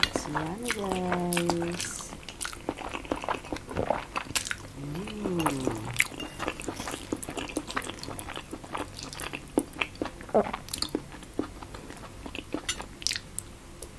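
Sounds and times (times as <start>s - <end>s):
wet chewing and mouth clicks: 0.0s - 13.9s.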